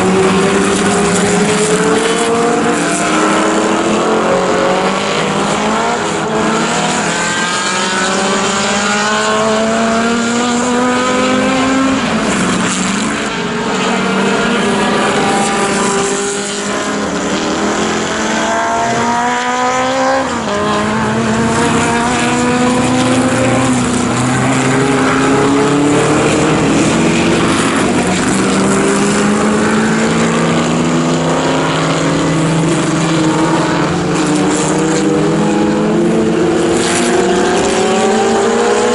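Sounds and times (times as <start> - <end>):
racing car engine at full throttle: 0.0 - 38.9.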